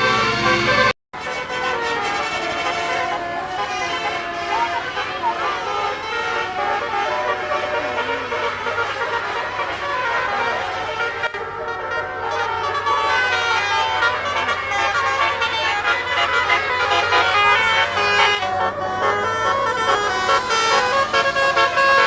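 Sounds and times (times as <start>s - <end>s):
multi-tone air horn melody: 0.0s - 22.0s.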